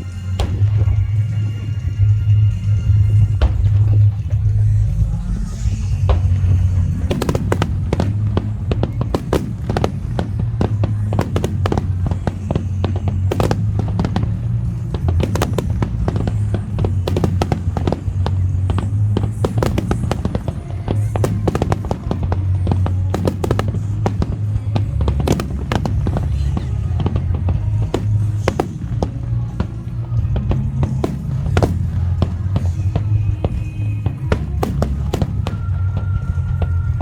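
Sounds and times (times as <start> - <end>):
fireworks bursts and cracks: 0.0 - 37.0
music playing: 0.0 - 37.0
steady low rumble: 0.0 - 37.0.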